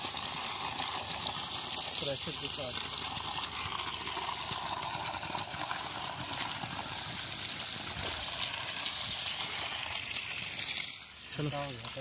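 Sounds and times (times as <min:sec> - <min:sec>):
water rushing from pipe: 0:00.0 - 0:12.0.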